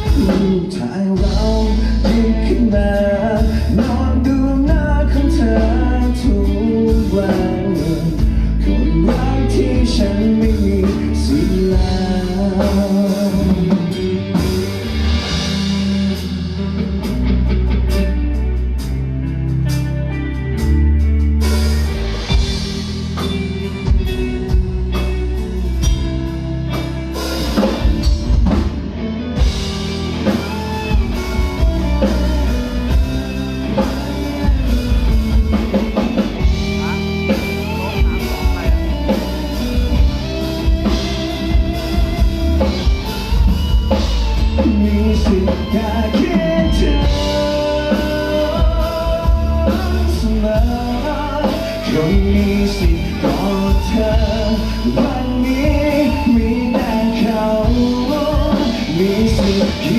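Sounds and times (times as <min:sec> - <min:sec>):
drum kit beat: 0:00.0 - 0:59.9
live band playing: 0:00.0 - 0:59.9.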